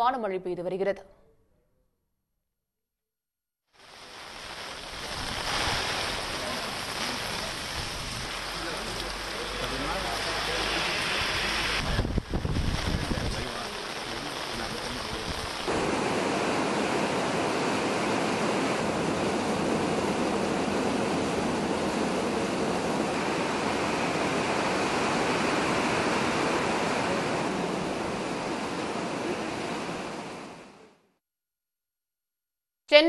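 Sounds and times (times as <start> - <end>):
rain on wet road: 3.8 - 30.6.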